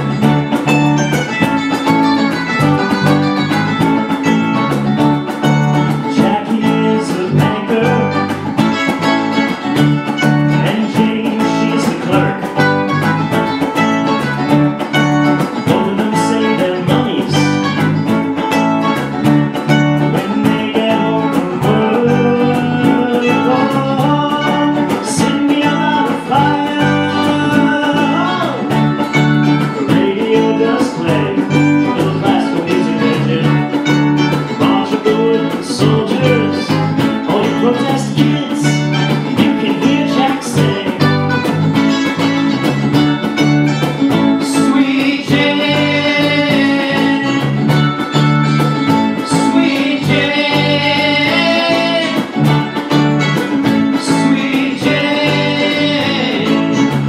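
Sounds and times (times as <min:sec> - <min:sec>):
cajon beat: 0:00.0 - 0:57.0
electric bass: 0:00.0 - 0:57.0
strummed and picked guitars: 0:00.0 - 0:57.0.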